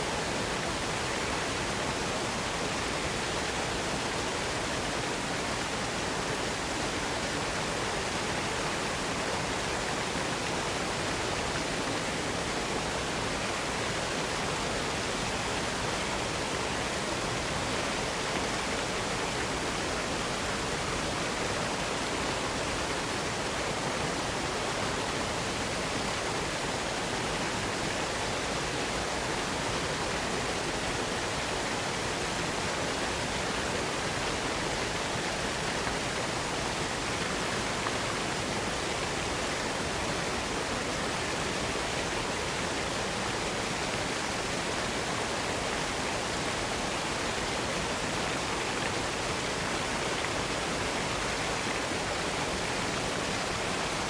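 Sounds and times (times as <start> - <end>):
waterfall rushing and splashing: 0.0 - 54.0.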